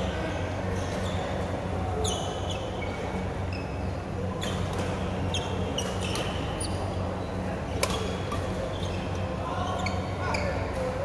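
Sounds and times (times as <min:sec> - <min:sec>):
shoes squeaking on court floor: 0:00.0 - 0:11.0.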